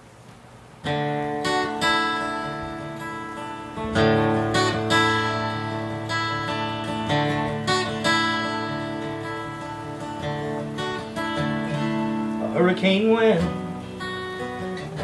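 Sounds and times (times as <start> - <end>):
acoustic guitar strumming chords: 0.8 - 15.0.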